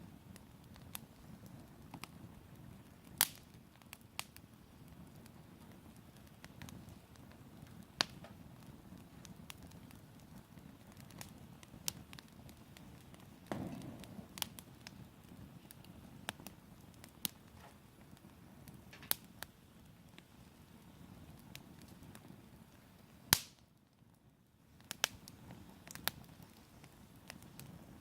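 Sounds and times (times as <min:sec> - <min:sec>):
campfire popping and crackling: 0:00.0 - 0:28.0
low rumble of flames: 0:00.0 - 0:28.0.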